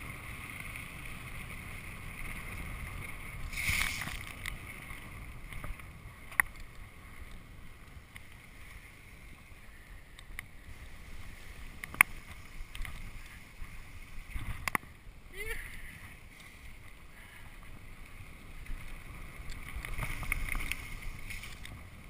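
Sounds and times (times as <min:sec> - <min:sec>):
tyre and trail rumble: 0:00.0 - 0:22.0.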